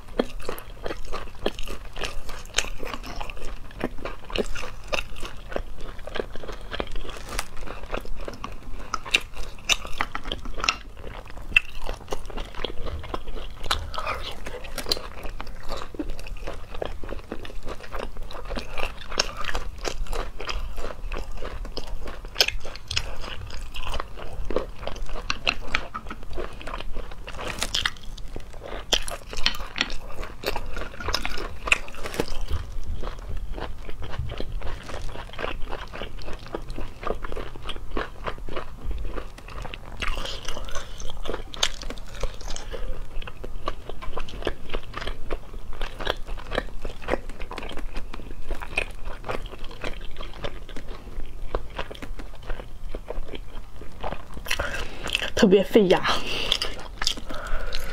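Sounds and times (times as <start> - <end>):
chewing with crunches: 0.0 - 57.9.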